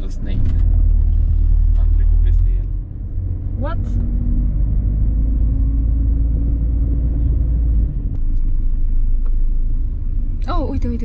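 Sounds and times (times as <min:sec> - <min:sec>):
car driving rumble: 0:00.0 - 0:11.0.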